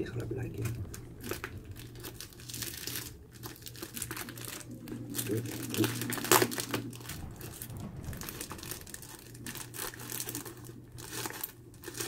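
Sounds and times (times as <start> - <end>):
wrapper crinkling: 0.5 - 12.0.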